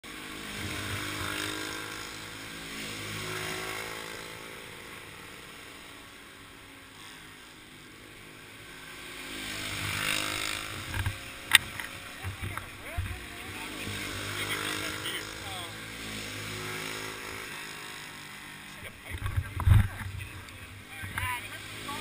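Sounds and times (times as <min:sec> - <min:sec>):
car engines idling: 0:00.4 - 0:22.0.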